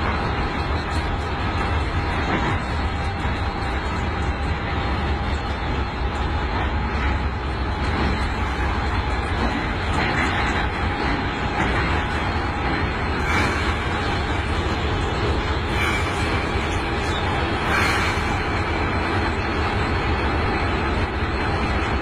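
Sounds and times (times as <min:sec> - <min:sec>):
locomotive engine rumbling: 0:00.0 - 0:22.0.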